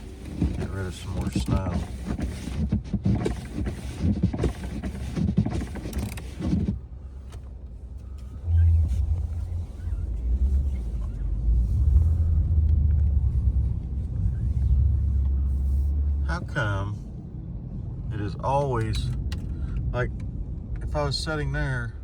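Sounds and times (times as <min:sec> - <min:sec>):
pickup engine rumbling: 0:00.0 - 0:22.0.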